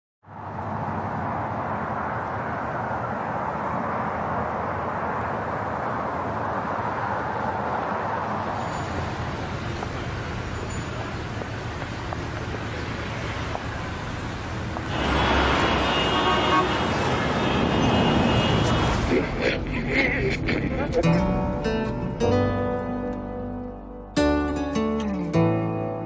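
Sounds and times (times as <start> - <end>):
passing cars hum and rush: 0.2 - 24.6.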